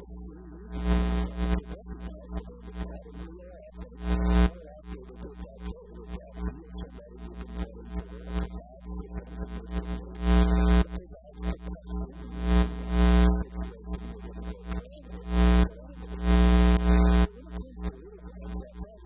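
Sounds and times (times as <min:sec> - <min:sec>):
sound system hum and buzz: 0:00.0 - 0:19.0.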